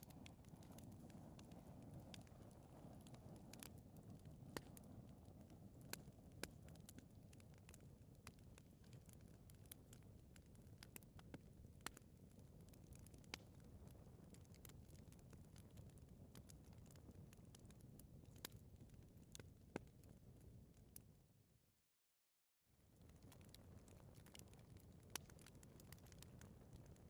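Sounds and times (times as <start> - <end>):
fire crackling and popping: 0.0 - 21.1, 22.8 - 27.0
low rumble of flame: 0.0 - 21.3, 22.7 - 27.0.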